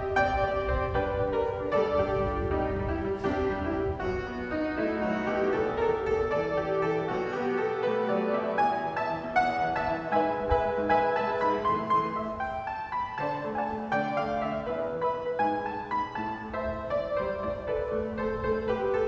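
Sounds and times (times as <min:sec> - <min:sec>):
keyboard music: 0:00.0 - 0:19.0.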